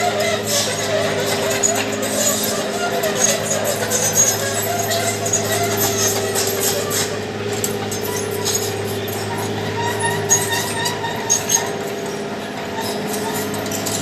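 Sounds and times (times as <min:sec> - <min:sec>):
diesel engine running: 0:00.0 - 0:14.0
sharp metallic clinks: 0:00.6 - 0:14.0.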